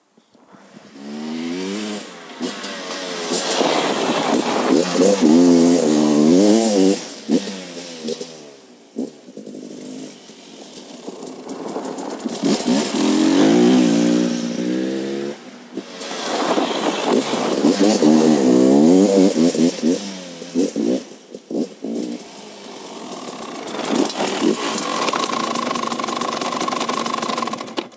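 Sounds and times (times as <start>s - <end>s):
motorcycle engine revving: 0.7s - 27.9s.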